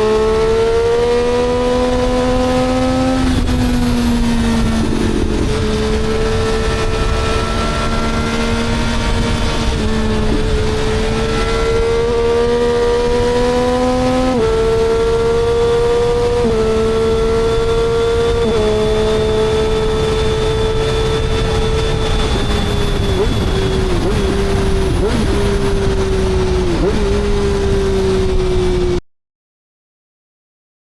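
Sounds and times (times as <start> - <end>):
engine revving through upshifts: 0.0 - 29.0.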